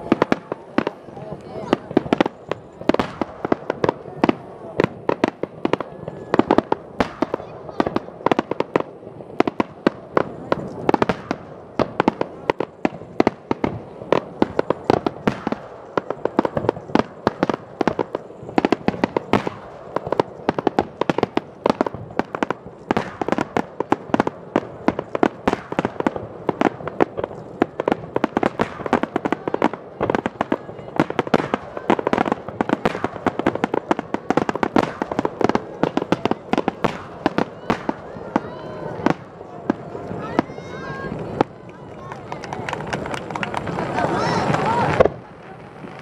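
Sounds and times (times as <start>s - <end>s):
firework shells bursting: 0.0s - 46.0s.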